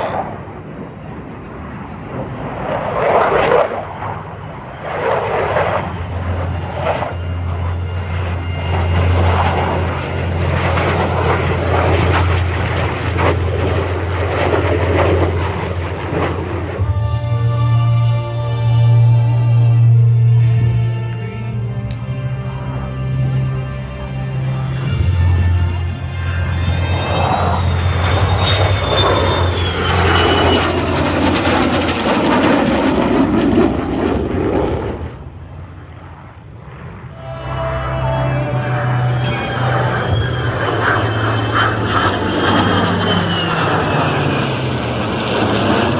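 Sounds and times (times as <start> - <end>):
jet aircraft engine roar with crackle: 0.0 - 45.9.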